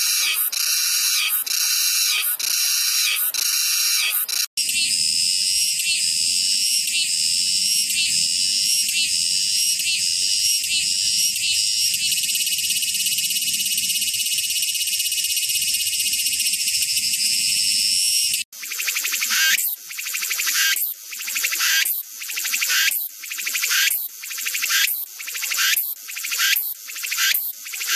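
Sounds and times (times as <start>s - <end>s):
cicada call in rising sweeps: 0.0s - 27.9s
cicadas buzzing: 0.0s - 27.9s.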